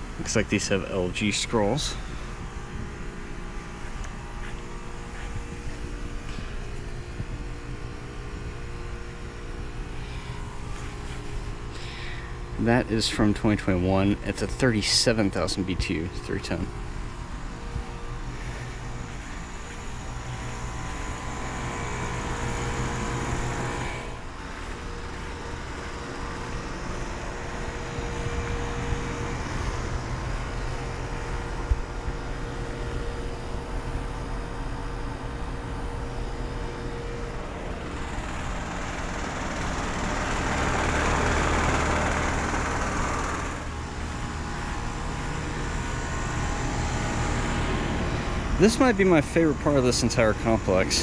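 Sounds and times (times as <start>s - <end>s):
compressor hum: 0.0s - 51.0s
condenser fans rushing: 0.0s - 51.0s.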